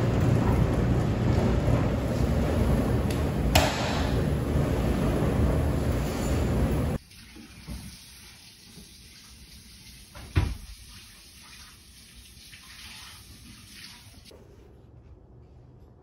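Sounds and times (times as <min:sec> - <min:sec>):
quiet kitchen sounds: 0:00.0 - 0:16.0.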